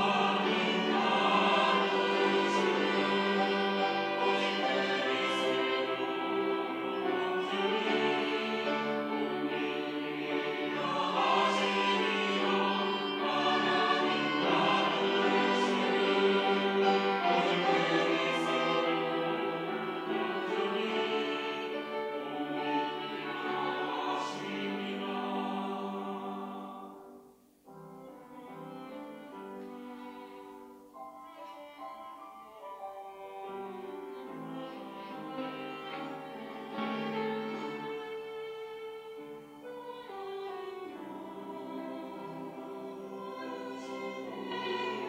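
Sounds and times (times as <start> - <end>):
choir singing: 0.0 - 45.0
instrumental accompaniment: 0.0 - 45.0.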